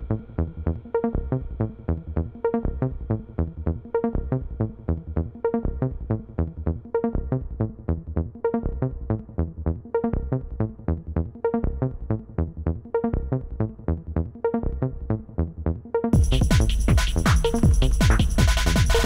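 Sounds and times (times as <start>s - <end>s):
electronic music with plucked synth: 0.0s - 19.0s.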